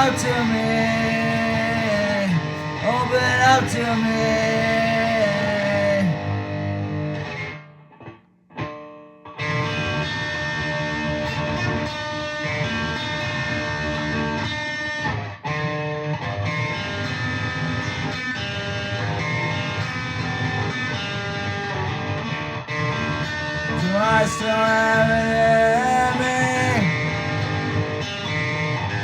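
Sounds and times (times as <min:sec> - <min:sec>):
distorted electric guitar: 0:00.0 - 0:29.0.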